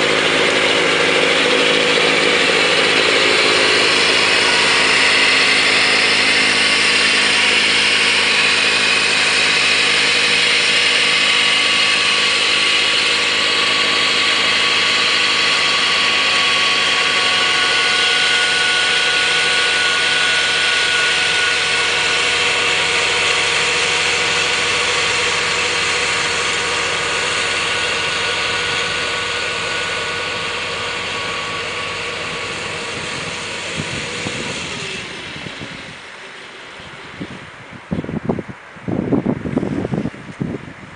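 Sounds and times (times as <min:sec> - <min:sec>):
snowblower throwing snow: 0:00.0 - 0:37.6
tractor diesel engine running: 0:00.0 - 0:40.9.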